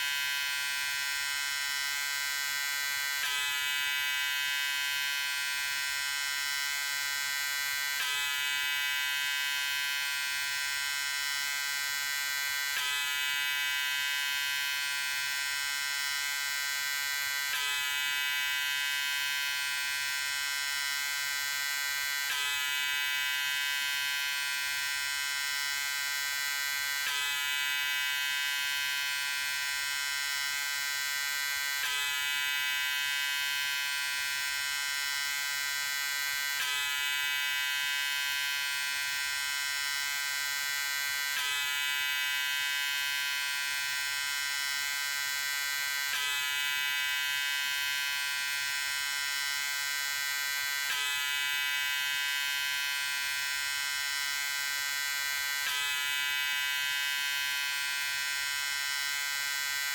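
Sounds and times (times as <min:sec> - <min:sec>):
electric shaver buzzing: 0:00.0 - 0:59.9.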